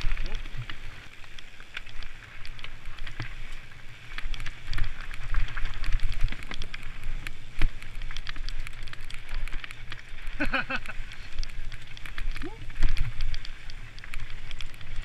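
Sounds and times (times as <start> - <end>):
bike rattling: 0.0 - 15.0
wind rumbling on microphone: 0.0 - 15.0.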